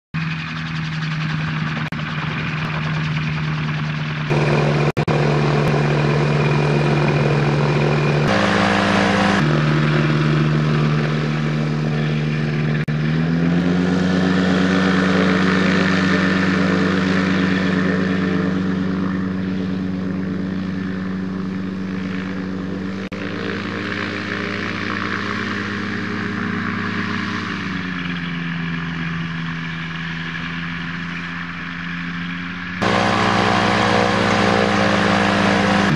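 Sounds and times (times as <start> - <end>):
gyroplane engine and propeller: 0.2 - 35.9.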